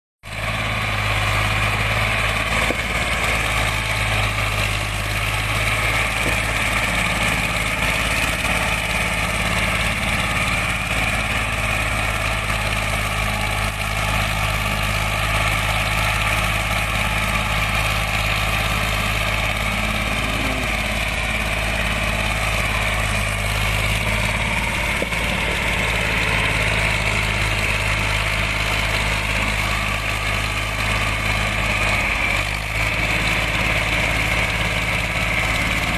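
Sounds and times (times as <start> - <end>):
tractor diesel engine running: 0.2 - 35.9.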